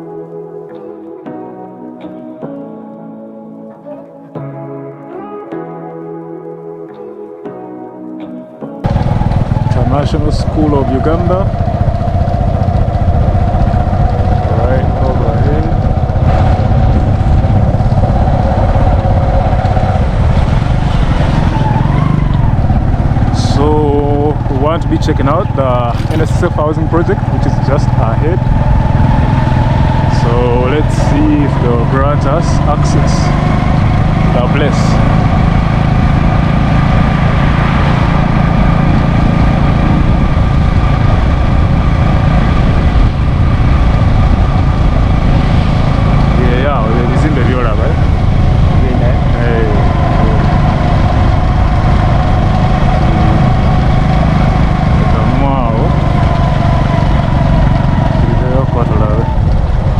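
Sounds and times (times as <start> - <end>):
road noise: 8.8 - 59.9
steady whine: 8.8 - 59.9
vehicle engine rumble: 8.8 - 59.9.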